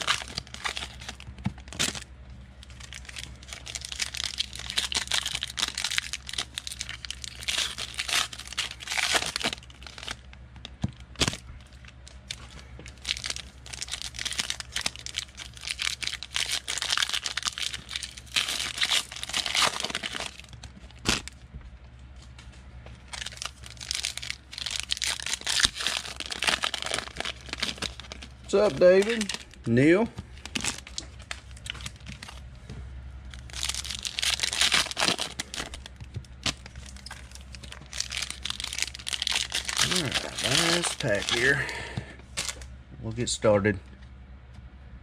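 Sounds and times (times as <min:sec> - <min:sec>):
foil wrapper crinkling and tearing: 0:00.0 - 0:21.4, 0:23.0 - 0:32.4, 0:33.3 - 0:42.7.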